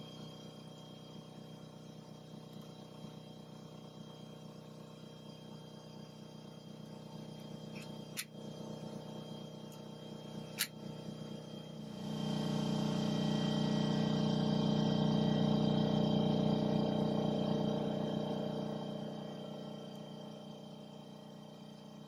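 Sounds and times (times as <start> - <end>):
air compressor motor humming: 0.0 - 22.0.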